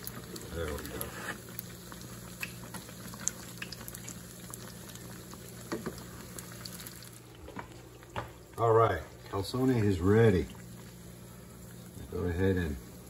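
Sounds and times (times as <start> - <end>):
deep-frying bubbling sizzle: 0.0 - 13.0
oil popping and crackling: 0.0 - 13.0.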